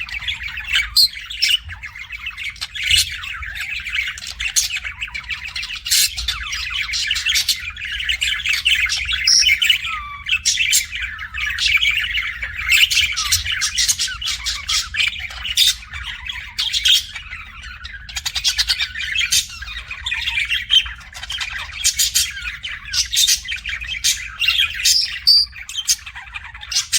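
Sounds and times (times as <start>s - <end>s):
budgerigar chattering: 0.0s - 26.9s.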